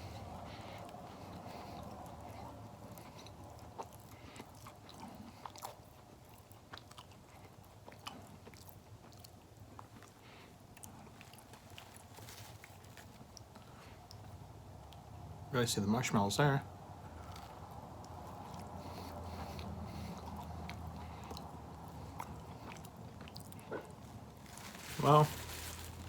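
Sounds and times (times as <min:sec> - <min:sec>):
person chewing with soft crunching: 0:00.0 - 0:15.5, 0:16.4 - 0:26.0.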